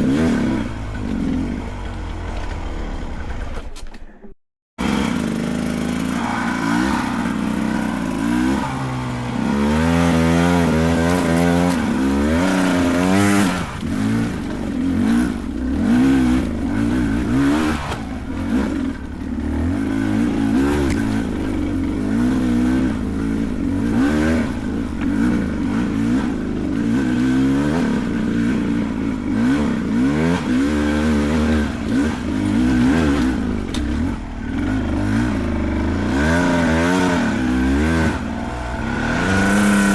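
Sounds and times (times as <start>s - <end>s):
dirt bike engine revving: 0.0s - 3.5s, 4.8s - 39.9s.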